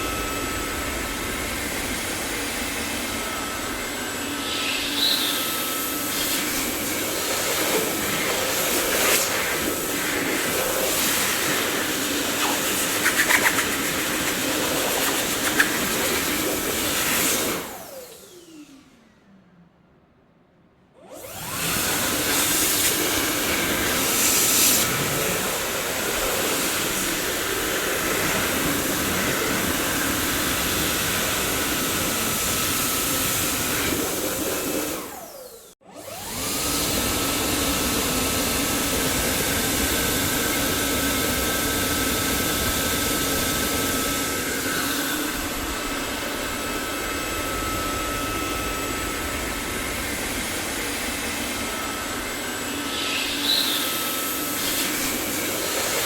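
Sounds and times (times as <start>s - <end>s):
vacuum cleaner running: 0.0s - 19.2s, 21.0s - 56.0s
vacuum motor winding down: 0.0s - 19.3s, 21.0s - 56.0s.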